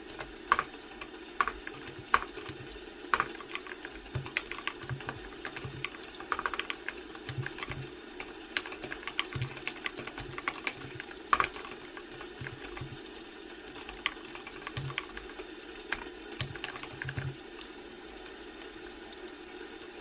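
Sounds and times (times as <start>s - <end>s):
computer keyboard typing: 0.0s - 17.4s.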